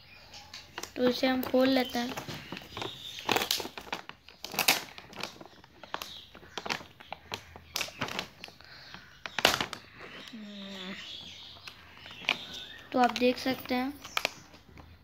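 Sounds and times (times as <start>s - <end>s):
plastic packaging crinkling: 0.5s - 15.0s.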